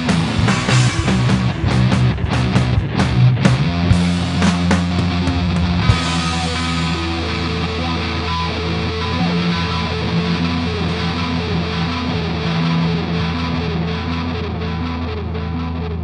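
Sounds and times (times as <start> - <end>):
drums: 0.0 - 14.7
distorted electric guitar riff: 0.0 - 16.0
electric bass: 0.0 - 16.0.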